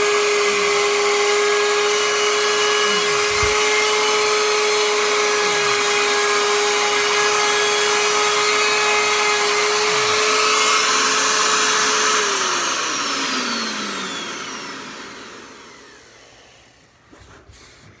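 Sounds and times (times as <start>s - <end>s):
trim router whining: 0.0s - 17.0s.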